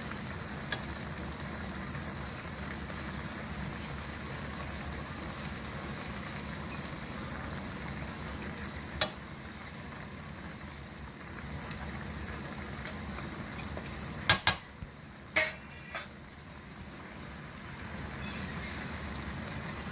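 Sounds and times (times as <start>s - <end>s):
stew simmering in a pan: 0.0s - 19.9s.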